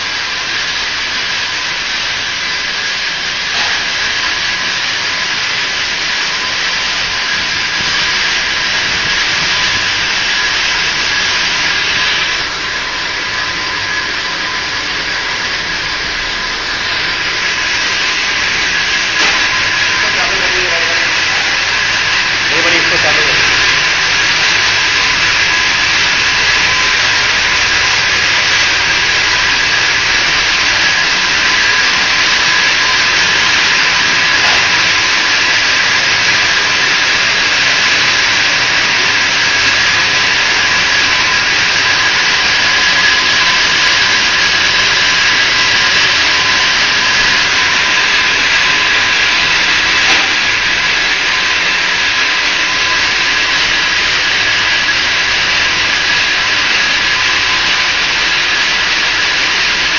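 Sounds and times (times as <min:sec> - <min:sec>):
machinery hissing: 0:00.0 - 0:59.9.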